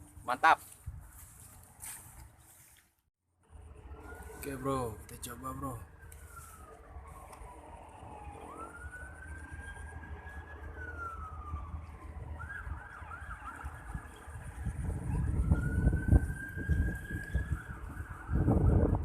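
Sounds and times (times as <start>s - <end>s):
siren wailing and yelping: 3.5s - 19.0s.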